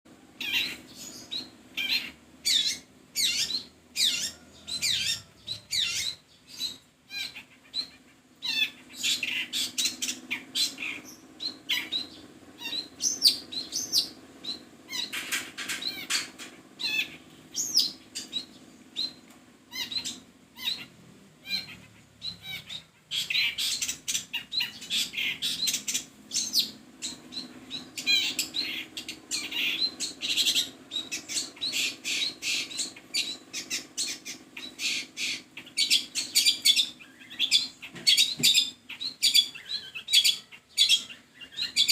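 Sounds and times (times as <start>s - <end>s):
shrike harsh chattering calls: 0.3s - 41.9s.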